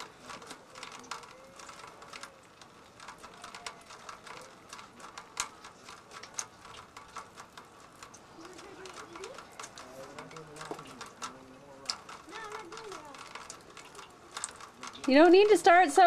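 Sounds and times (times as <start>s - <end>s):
clicking and crackling: 0.0s - 16.0s
faint distant voices: 0.0s - 16.0s.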